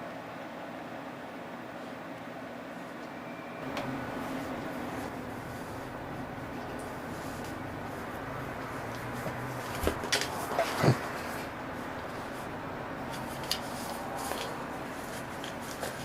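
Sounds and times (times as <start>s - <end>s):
low hum: 3.0s - 16.0s.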